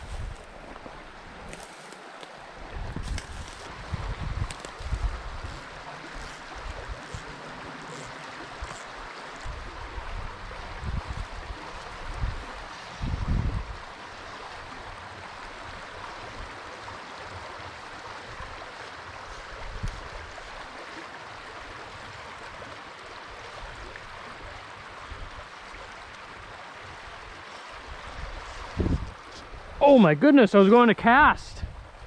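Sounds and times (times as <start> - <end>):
stream water flowing: 0.0 - 32.0.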